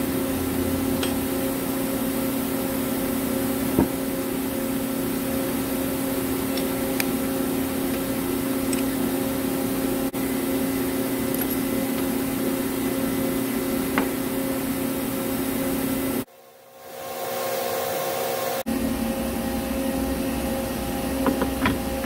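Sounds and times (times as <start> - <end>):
workshop machinery hum: 0.0 - 22.0.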